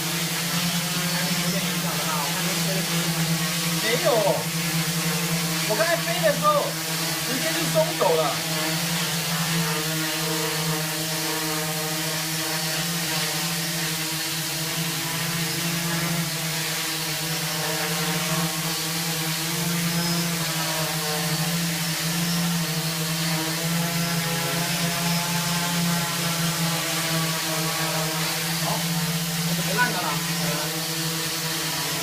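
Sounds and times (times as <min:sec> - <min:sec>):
drone hovering: 0:00.0 - 0:15.6, 0:16.2 - 0:32.0.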